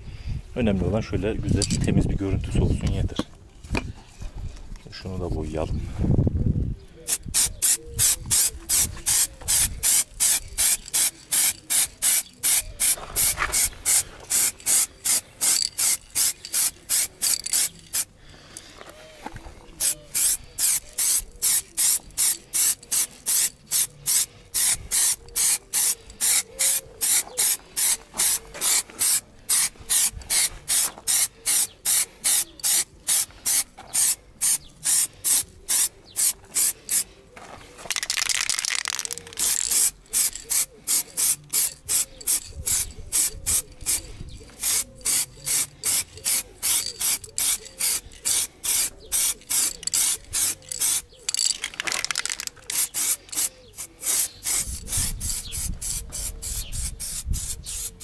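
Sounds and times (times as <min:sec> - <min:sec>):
spray paint can hissing: 0:07.1 - 0:18.1, 0:19.8 - 0:37.1, 0:37.9 - 0:58.0.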